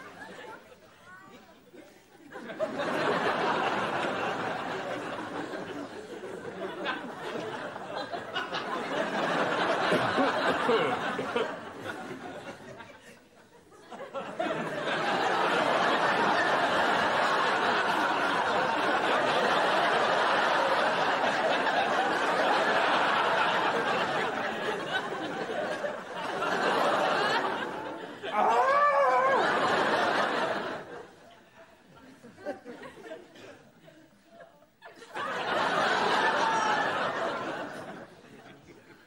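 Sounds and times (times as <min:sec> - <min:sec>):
audience laughing: 0:00.0 - 0:39.0.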